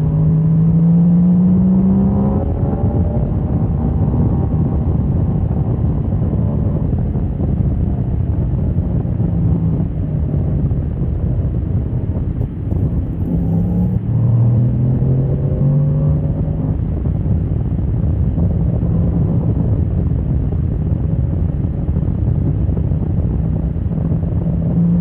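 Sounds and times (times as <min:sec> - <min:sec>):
wind buffeting on microphone: 0:00.0 - 0:25.0.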